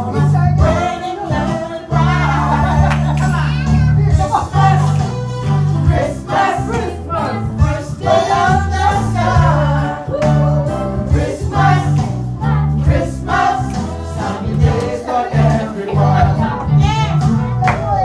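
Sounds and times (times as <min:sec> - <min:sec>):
group singing: 0:00.0 - 0:18.0
instrumental accompaniment: 0:00.0 - 0:18.0.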